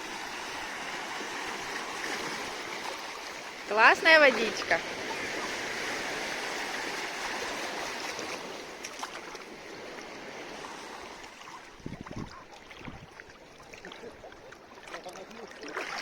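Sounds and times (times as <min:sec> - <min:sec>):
water sloshing from swimming: 0:00.0 - 0:16.0.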